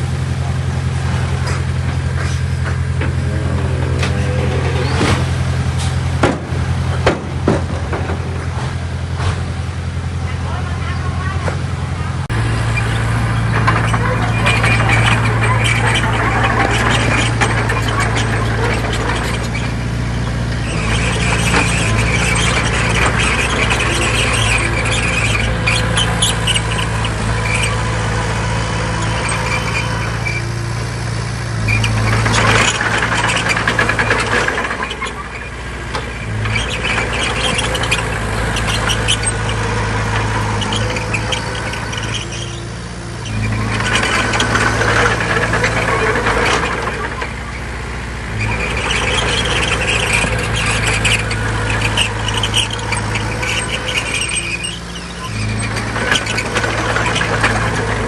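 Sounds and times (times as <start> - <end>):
bulldozer diesel engine: 0.0 - 58.0
steel tracks squealing and clattering: 0.0 - 58.0.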